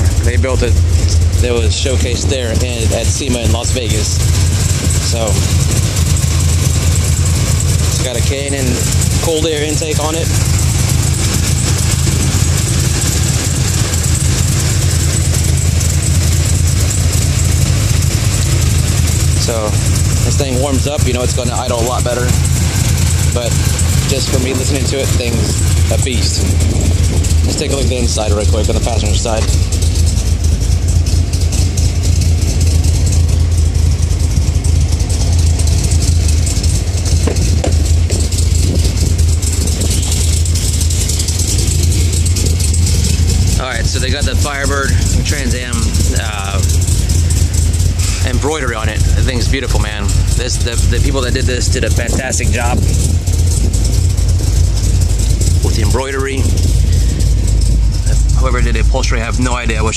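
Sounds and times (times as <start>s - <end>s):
car engine choppy idle: 0.0s - 59.9s.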